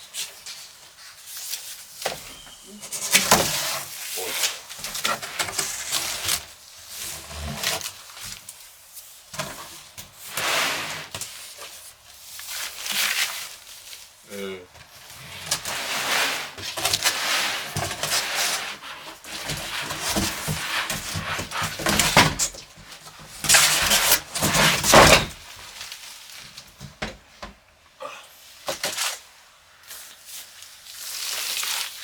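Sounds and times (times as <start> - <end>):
box packaging rustling and scraping: 0.1 - 14.2, 14.8 - 27.0.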